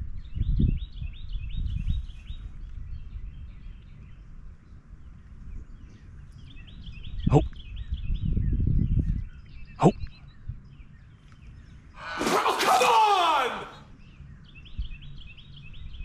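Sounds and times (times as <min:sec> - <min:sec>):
bird chirping: 0:00.2 - 0:12.3, 0:12.9 - 0:16.0.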